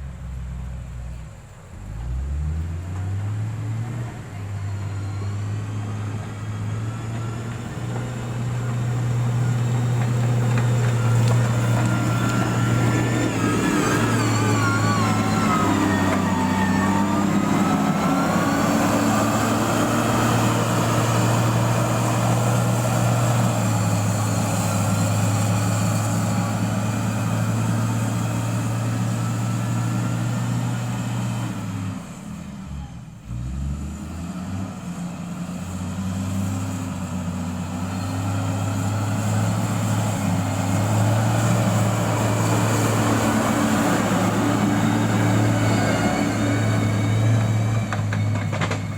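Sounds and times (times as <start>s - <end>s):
diesel engine running under load: 0.0s - 48.9s.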